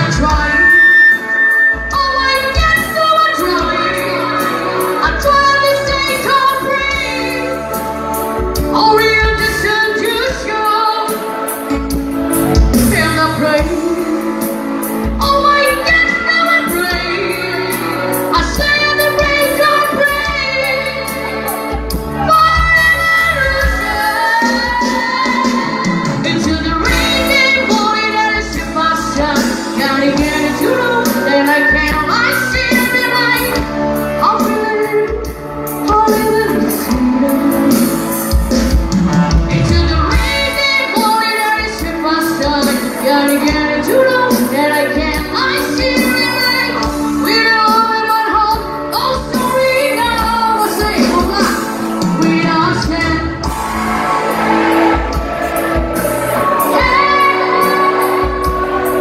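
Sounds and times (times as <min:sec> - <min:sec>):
live pop-rock band playing: 0:00.0 - 0:59.0
singer singing into microphone: 0:00.0 - 0:59.0.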